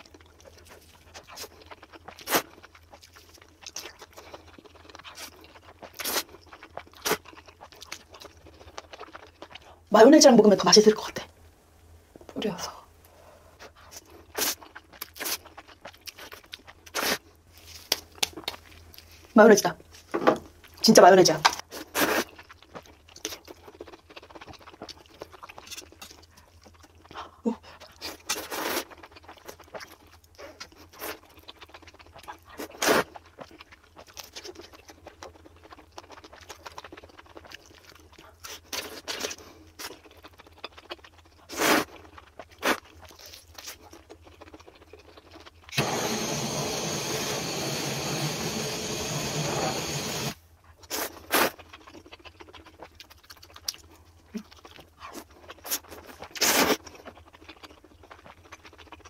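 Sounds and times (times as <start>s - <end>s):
chewing and biting: 0.0s - 9.9s, 13.6s - 19.3s, 21.6s - 59.0s.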